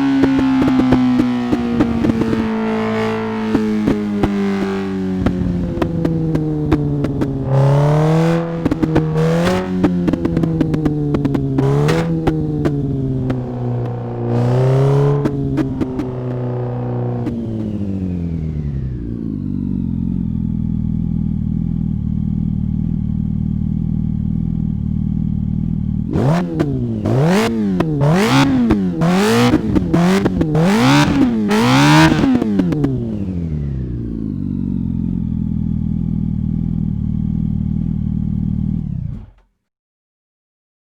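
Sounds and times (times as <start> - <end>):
engine idling and revving: 0.0 - 39.5.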